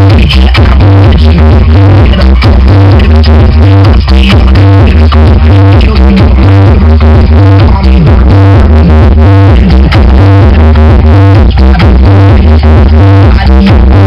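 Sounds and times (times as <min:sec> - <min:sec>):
loud electronic dance music: 0:00.0 - 0:14.0.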